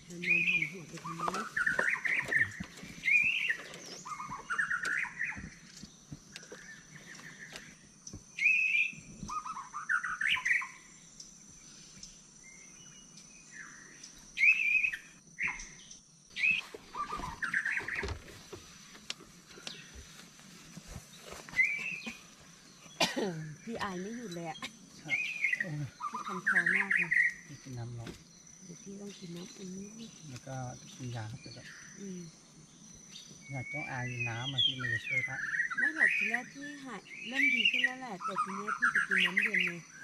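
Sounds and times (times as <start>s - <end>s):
forest birds singing: 0.0s - 40.0s.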